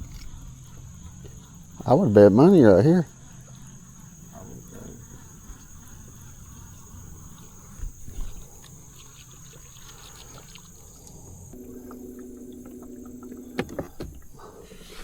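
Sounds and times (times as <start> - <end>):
faint water sounds: 0.0 - 15.0
high-pitched insect drone: 0.0 - 15.0
low steady hum: 0.0 - 15.0.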